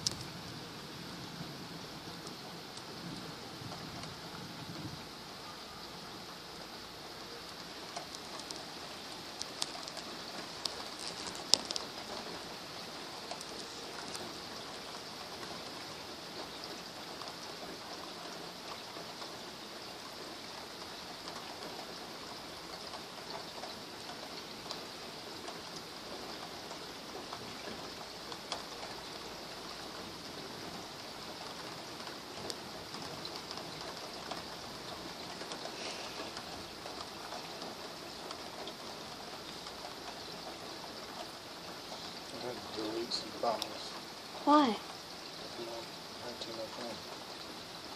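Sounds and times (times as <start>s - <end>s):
rain hiss: 0.0s - 47.9s.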